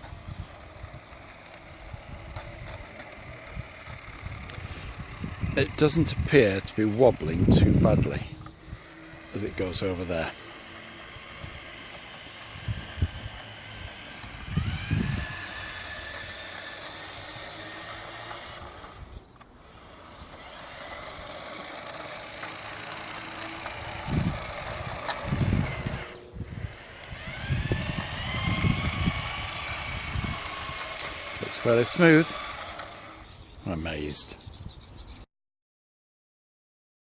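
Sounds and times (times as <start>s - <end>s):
model train motor whining: 0.0s - 34.2s.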